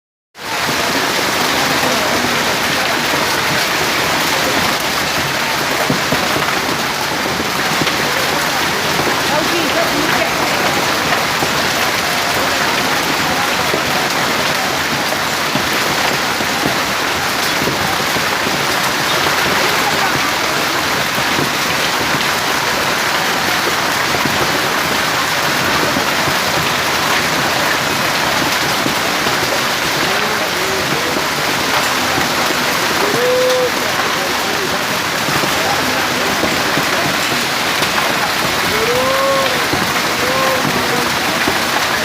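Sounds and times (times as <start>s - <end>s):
hail and rain pelting down: 0.4s - 42.0s.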